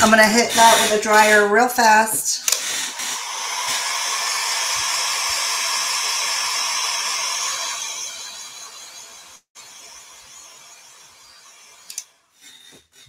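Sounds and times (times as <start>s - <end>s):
handheld dryer blowing air: 0.0s - 13.0s.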